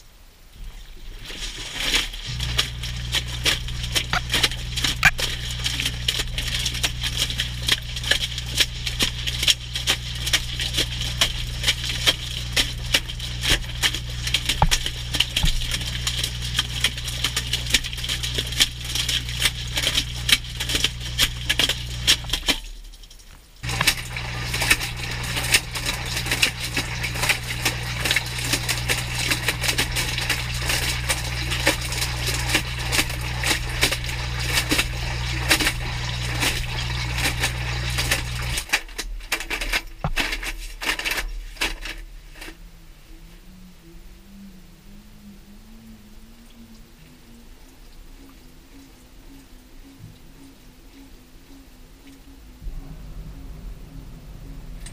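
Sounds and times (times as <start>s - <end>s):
washing machine motor hum: 1.0s - 42.6s, 52.3s - 54.9s.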